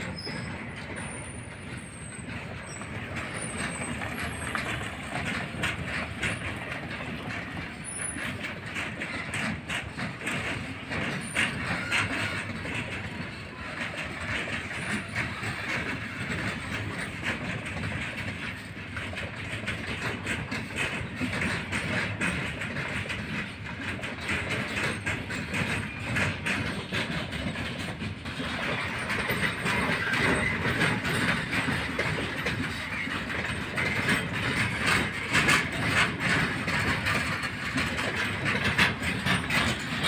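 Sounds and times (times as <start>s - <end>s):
steel wheels rumbling on rails: 0.0s - 40.0s
wheels clicking over rail joints: 0.0s - 40.0s.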